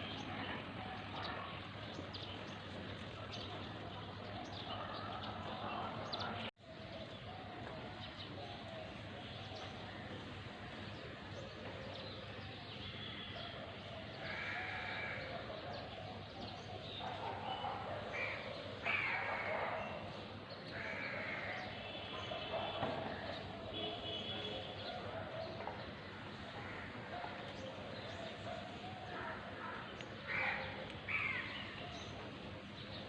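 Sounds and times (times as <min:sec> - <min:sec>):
steady outdoor background hum: 0:00.0 - 0:33.0.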